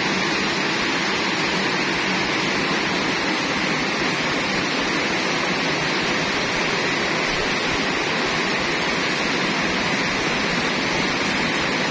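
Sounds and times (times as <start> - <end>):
heavy rain on metal roof: 0.0 - 11.9.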